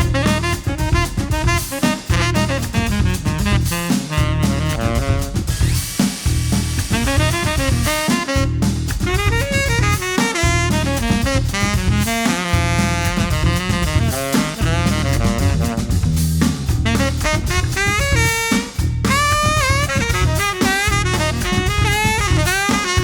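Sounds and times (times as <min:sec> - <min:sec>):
jazz music with saxophone: 0:00.0 - 0:23.0.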